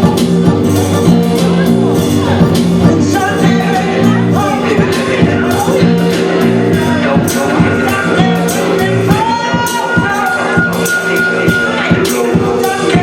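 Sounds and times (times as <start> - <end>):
drum beat: 0.0 - 13.0
sustained chords: 0.0 - 13.0.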